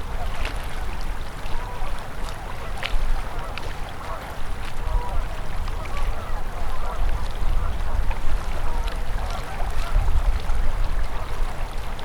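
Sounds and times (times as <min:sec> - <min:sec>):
river flowing and gurgling: 0:00.0 - 0:12.0.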